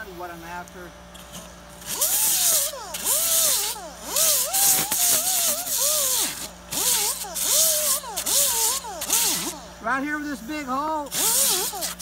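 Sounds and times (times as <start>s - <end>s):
air grinder sanding foam: 1.2s - 12.0s.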